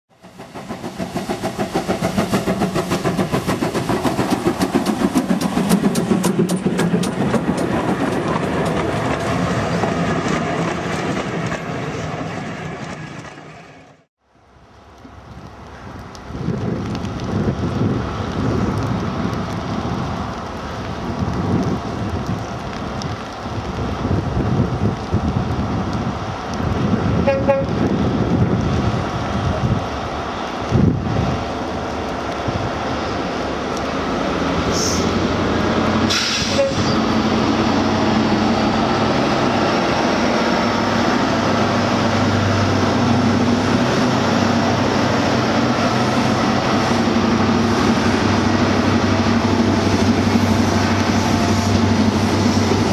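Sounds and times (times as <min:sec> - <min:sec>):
train wheels rumbling on rails: 0:00.1 - 0:14.1, 0:14.9 - 0:52.9.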